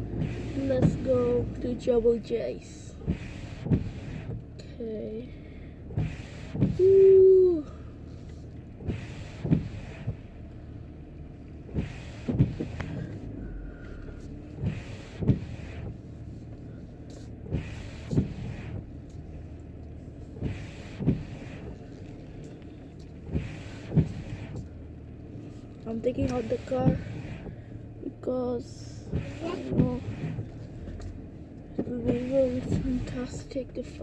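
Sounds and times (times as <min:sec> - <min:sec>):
windshield wipers knocking: 0:00.0 - 0:04.7, 0:05.8 - 0:07.4, 0:08.1 - 0:34.0
car engine hum: 0:00.0 - 0:34.0.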